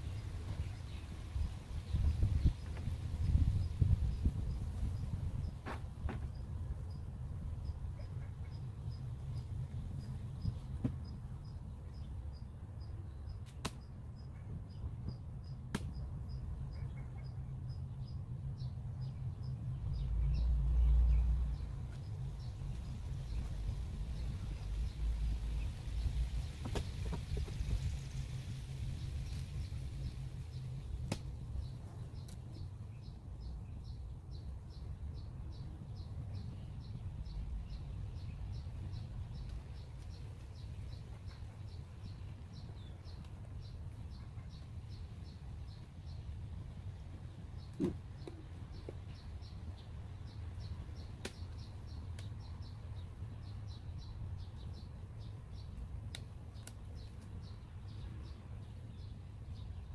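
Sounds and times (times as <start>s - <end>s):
outdoor ambience: 0.0s - 59.9s.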